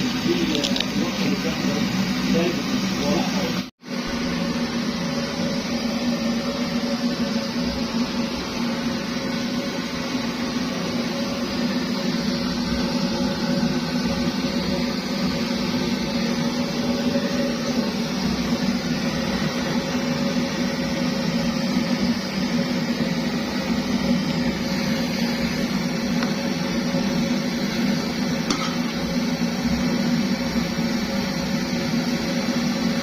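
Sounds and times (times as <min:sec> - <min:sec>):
pressure stove burner rushing: 0:00.0 - 0:33.0.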